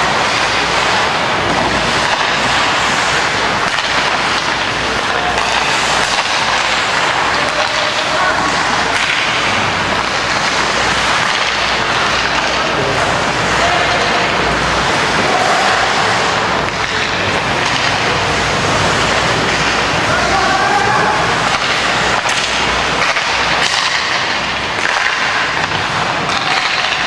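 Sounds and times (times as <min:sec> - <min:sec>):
ice hockey game din: 0:00.0 - 0:27.0.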